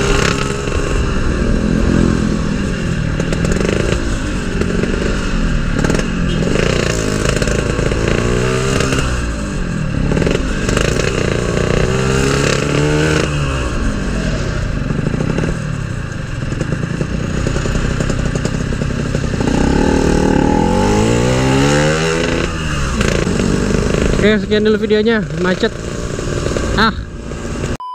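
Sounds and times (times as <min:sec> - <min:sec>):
motorcycle engine revving: 0:00.0 - 0:27.8
wind and road noise: 0:00.0 - 0:27.8.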